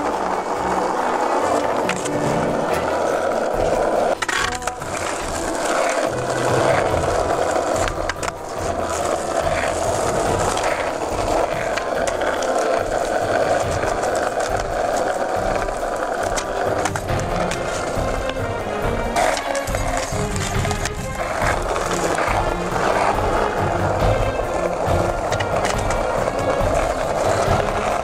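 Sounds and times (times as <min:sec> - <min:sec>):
skateboard clacks: 0:00.0 - 0:28.0
skateboard wheels rolling on asphalt: 0:00.0 - 0:28.0.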